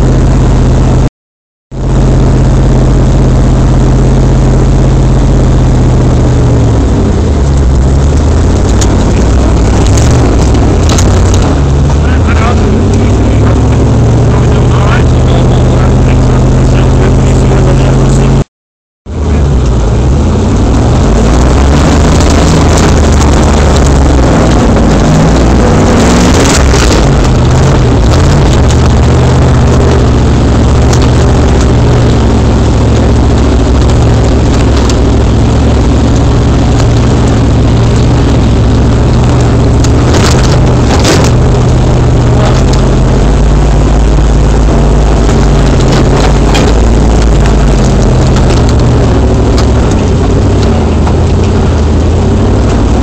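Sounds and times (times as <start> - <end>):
car engine running: 0.0 - 1.1, 1.7 - 53.0.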